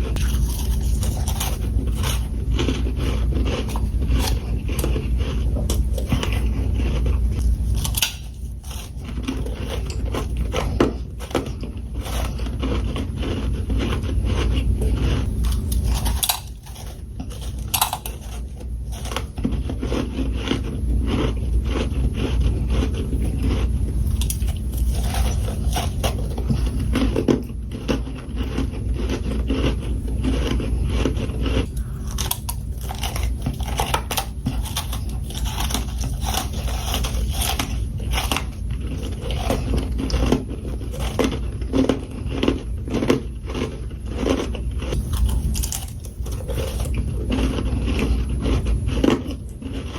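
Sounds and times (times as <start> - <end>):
frost crunching in mouth: 0.0 - 49.9.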